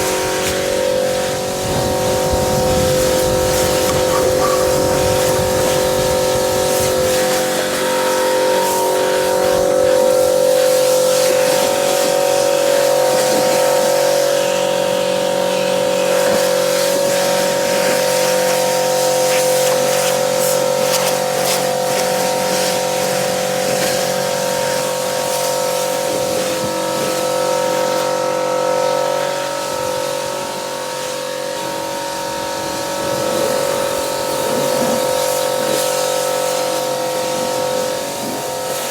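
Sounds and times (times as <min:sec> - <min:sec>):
pressure washer hum: 0:00.0 - 0:38.9
water jet hissing: 0:00.0 - 0:38.9.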